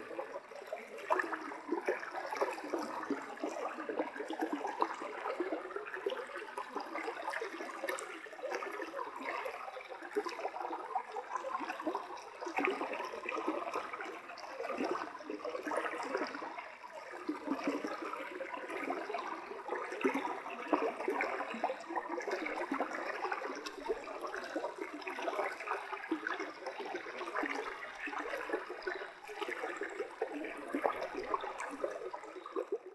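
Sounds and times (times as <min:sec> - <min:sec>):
stream trickling: 0:00.0 - 0:32.9.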